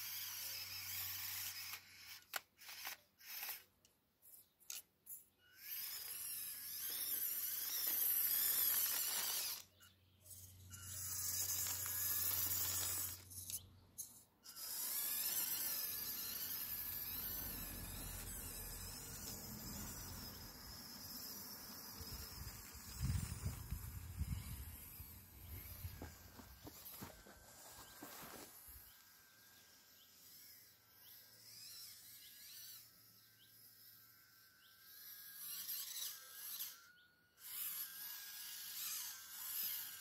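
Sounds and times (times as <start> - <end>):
small electric motor whining: 0.0 - 40.0.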